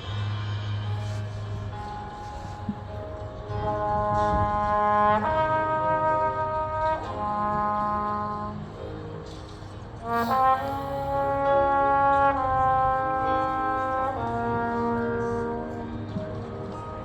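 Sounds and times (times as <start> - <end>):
marching band brass chords: 0.8 - 17.0.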